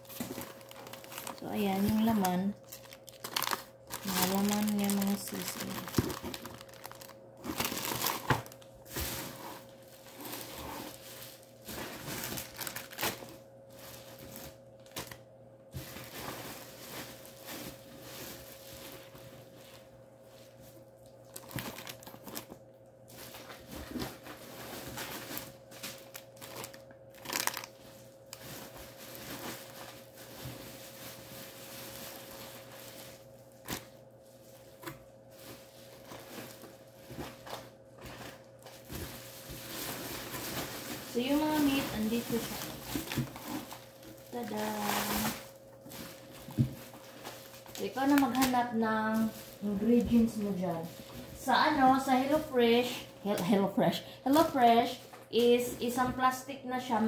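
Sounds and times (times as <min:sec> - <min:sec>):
plastic bags crinkling: 0:00.0 - 0:56.0
faint steady hum: 0:00.0 - 0:57.0.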